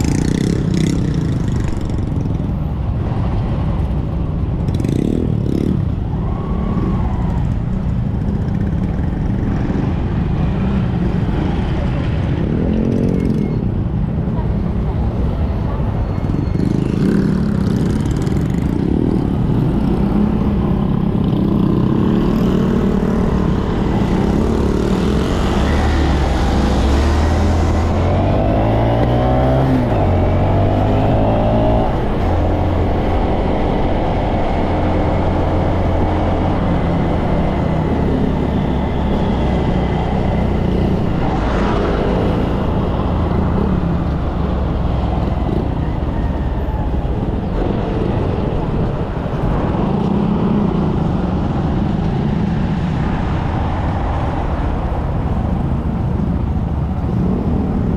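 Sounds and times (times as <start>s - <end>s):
motorcycle engines running: 0.0s - 57.9s.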